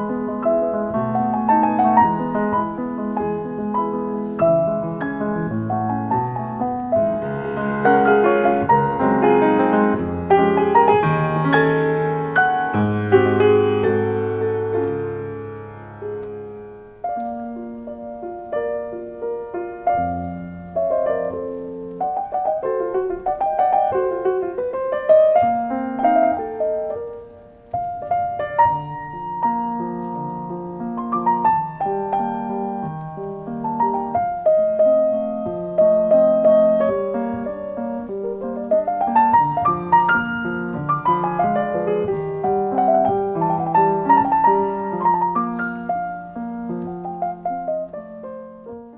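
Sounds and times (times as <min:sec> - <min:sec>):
solo piano piece: 0:00.0 - 0:48.9.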